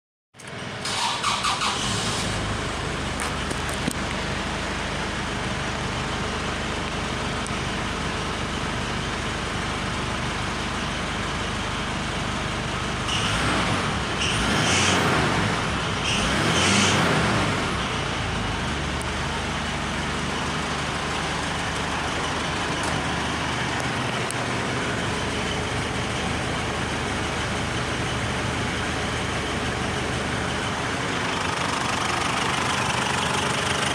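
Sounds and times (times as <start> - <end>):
pickup engine idling and revving: 0.4 - 33.9.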